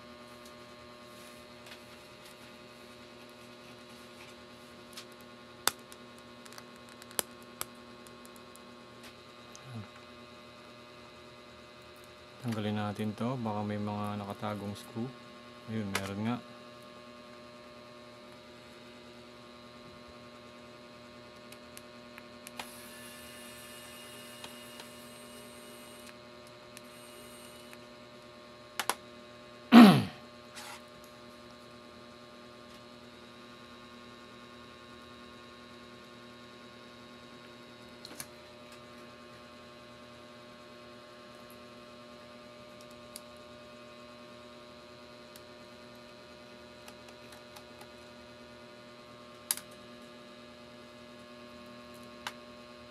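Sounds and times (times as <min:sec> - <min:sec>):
electrical mains hum: 0:00.0 - 0:52.9.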